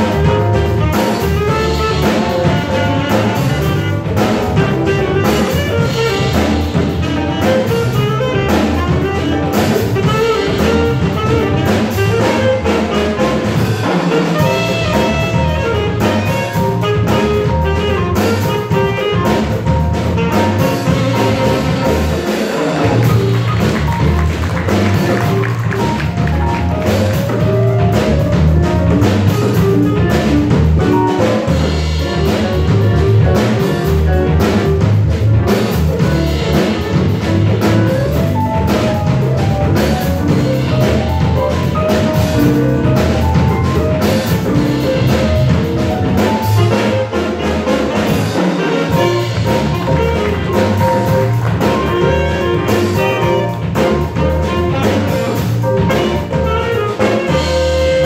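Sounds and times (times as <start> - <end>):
jazz-funk band playing: 0.0 - 58.0
saxophone: 0.0 - 58.0.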